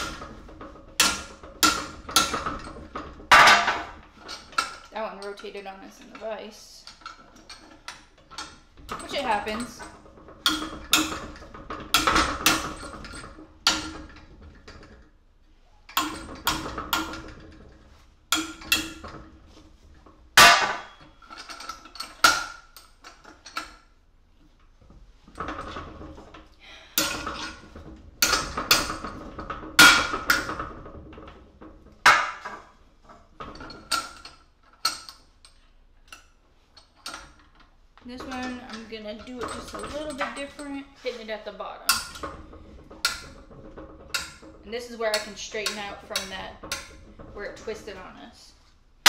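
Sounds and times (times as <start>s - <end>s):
vise handle rattling: 0.0s - 15.2s, 15.8s - 49.0s.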